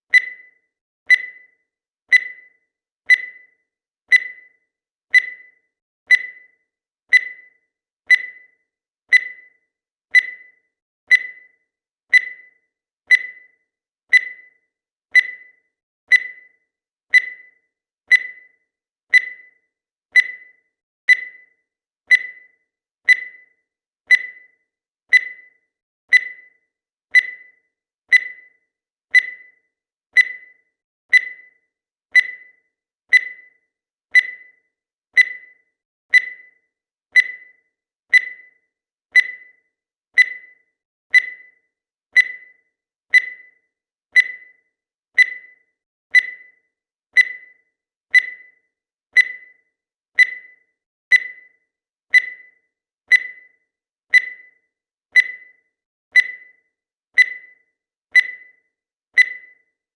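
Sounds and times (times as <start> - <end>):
timer beeping: 0.0 - 59.9.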